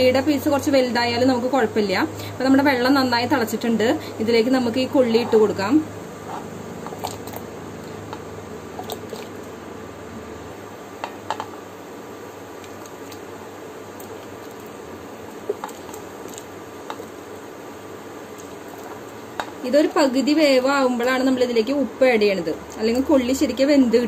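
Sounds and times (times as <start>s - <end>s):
water boiling and bubbling: 1.9s - 23.9s.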